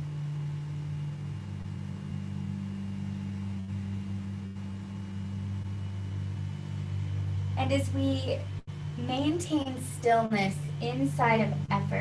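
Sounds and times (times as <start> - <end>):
low layered hum: 0.0 - 12.0.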